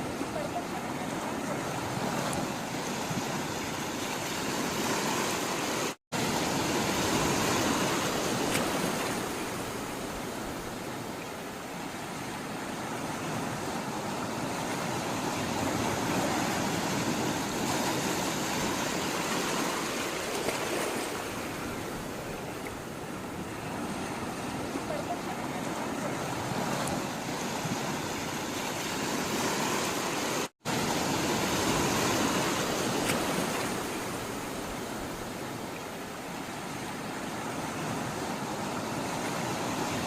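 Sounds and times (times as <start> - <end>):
sea water washing: 0.0 - 40.0.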